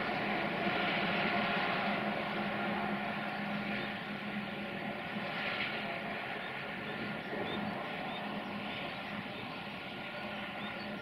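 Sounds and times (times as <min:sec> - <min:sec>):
distant train rumbling: 0:00.0 - 0:11.0.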